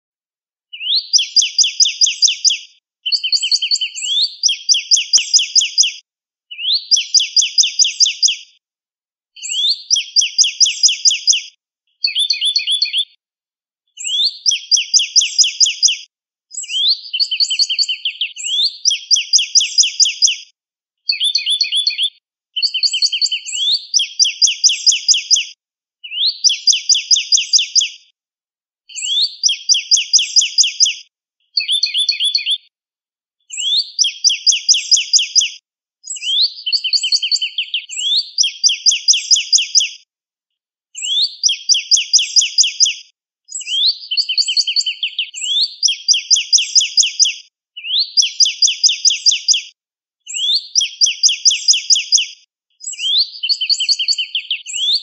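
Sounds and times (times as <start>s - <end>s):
bird whistling song: 0.7s - 8.4s, 9.4s - 13.2s, 14.0s - 20.4s, 21.1s - 28.0s, 28.9s - 31.0s, 31.6s - 32.7s, 33.5s - 40.0s, 41.0s - 49.6s, 50.3s - 55.0s.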